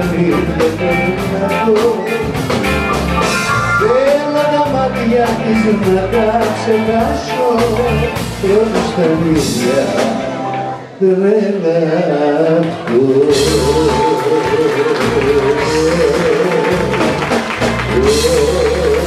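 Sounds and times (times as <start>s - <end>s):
drum kit: 0.0s - 10.4s, 13.3s - 19.0s
guitar: 0.0s - 11.1s, 12.3s - 19.0s
man singing: 0.0s - 19.0s.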